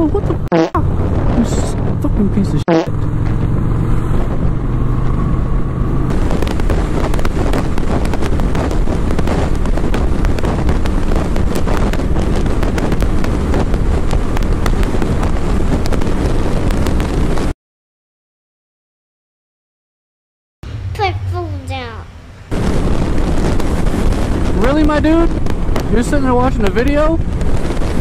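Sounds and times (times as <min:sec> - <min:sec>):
motorcycle engine: 0:00.0 - 0:17.5, 0:22.2 - 0:28.0
wind buffeting microphone: 0:00.0 - 0:17.5, 0:20.7 - 0:28.0.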